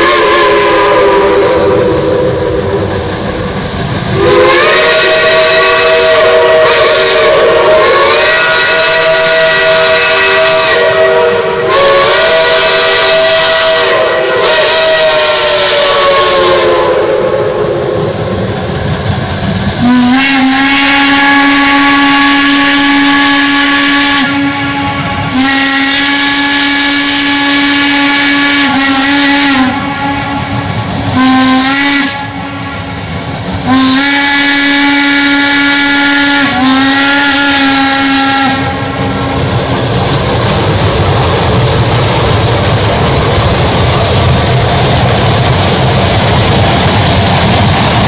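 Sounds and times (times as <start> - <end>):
steam whistle blasts: 0.0 - 19.1, 19.7 - 39.5
steam hissing: 0.0 - 48.0.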